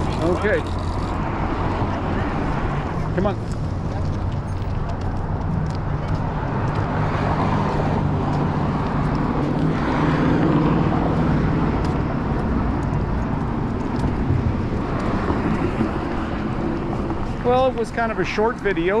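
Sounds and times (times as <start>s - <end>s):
cars driving past: 0.0s - 19.0s.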